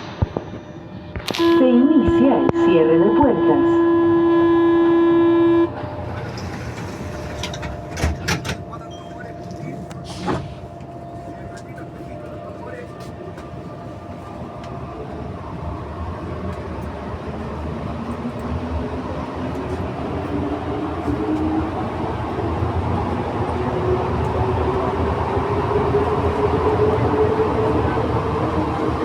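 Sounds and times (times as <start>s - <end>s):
train accelerating: 0.0s - 29.0s.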